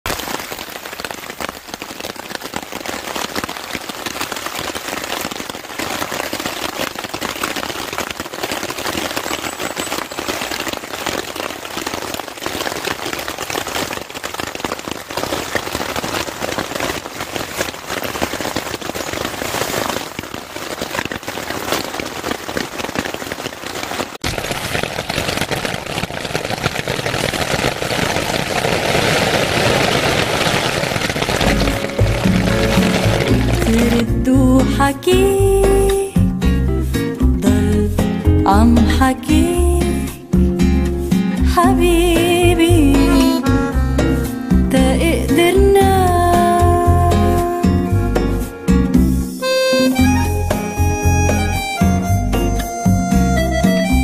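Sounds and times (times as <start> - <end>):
rain on a tarp: 0.0 - 54.0.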